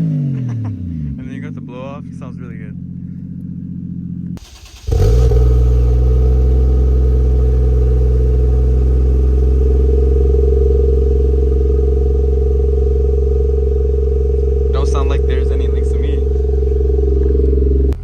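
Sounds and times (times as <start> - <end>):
car engine idling: 1.1 - 18.0.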